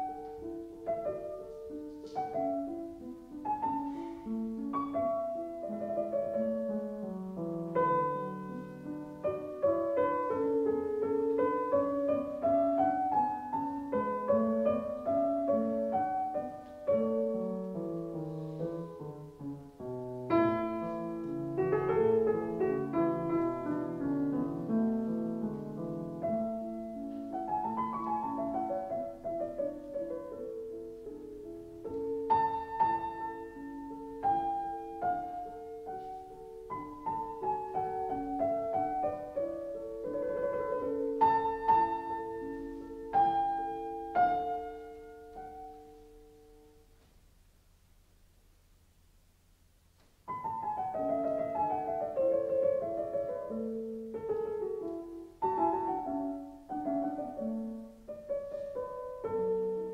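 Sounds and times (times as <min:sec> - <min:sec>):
background piano music: 0:00.0 - 0:47.0, 0:50.2 - 0:59.9.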